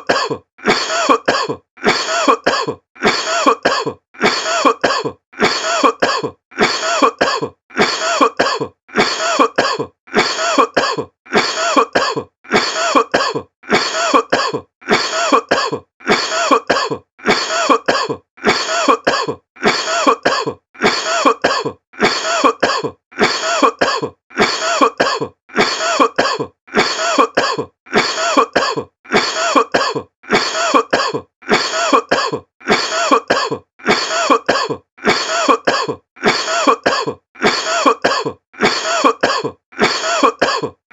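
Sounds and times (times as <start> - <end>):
person coughing: 0.0 - 40.9.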